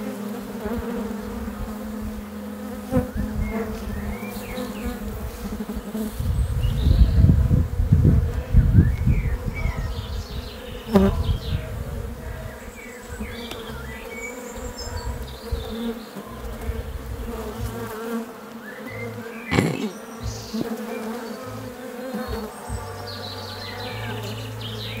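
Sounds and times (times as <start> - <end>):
bee swarm buzzing: 0.0 - 25.0.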